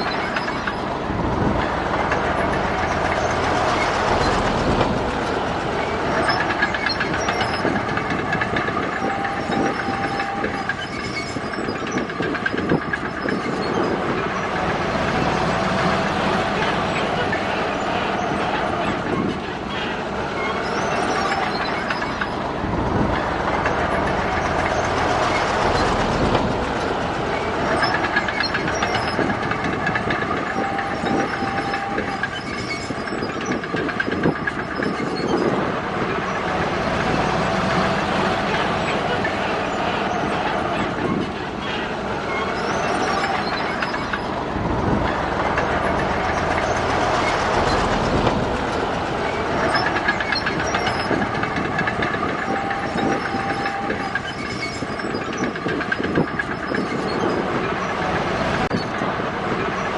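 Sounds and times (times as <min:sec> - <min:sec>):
bulldozer diesel engine under load: 0:00.0 - 0:59.9
clatter of steel crawler tracks: 0:00.0 - 0:59.9.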